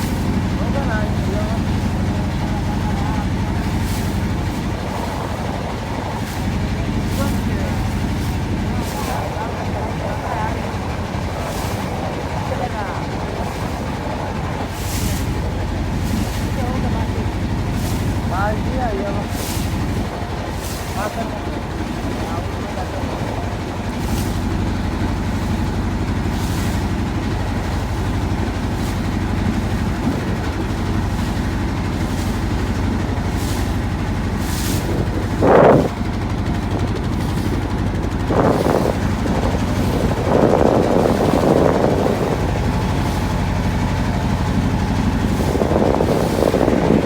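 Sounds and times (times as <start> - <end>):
motor engine droning: 0.0 - 47.0.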